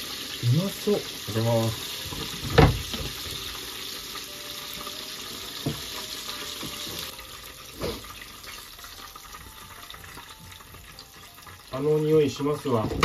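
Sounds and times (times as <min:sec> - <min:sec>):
oil sizzling deep-frying: 0:00.0 - 0:13.0.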